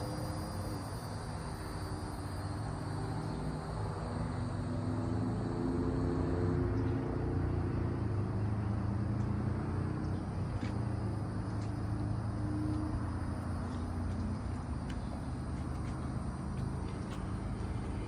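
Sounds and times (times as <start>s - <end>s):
cicadas buzzing: 0.0s - 18.0s
vehicle engine hum: 0.0s - 18.0s.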